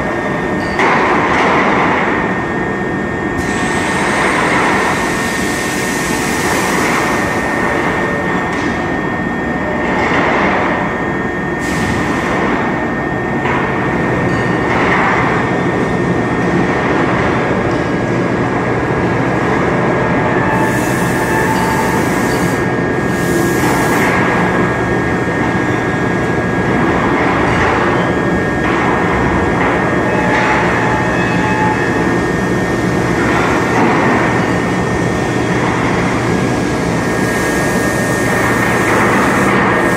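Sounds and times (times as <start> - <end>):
conveyor rumble and clatter: 0.0 - 39.9
high machine whine: 0.0 - 39.9.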